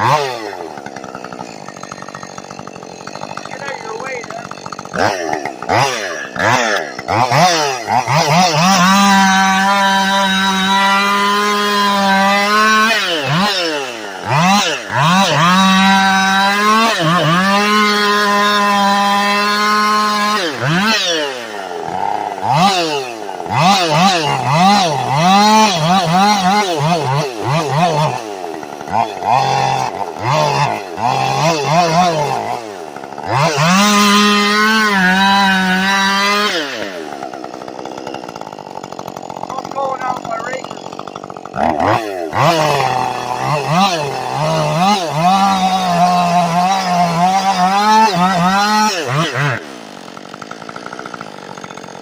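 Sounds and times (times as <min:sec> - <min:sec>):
small engine revving: 0:00.0 - 0:52.0.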